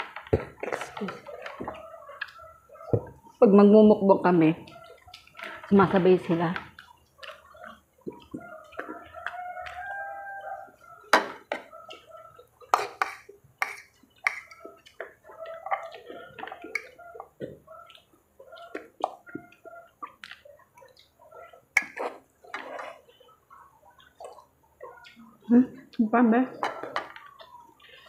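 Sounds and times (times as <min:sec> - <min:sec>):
wet chewing and lip smacks: 0:00.6 - 0:03.4, 0:04.6 - 0:28.0.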